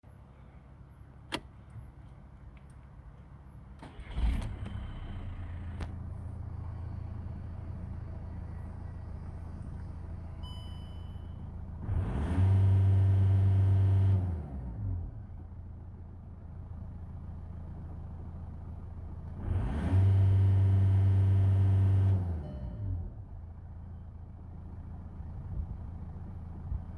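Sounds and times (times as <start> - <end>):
diesel engine idling and revving: 0.1 - 26.9
diesel engine starting: 3.6 - 26.9.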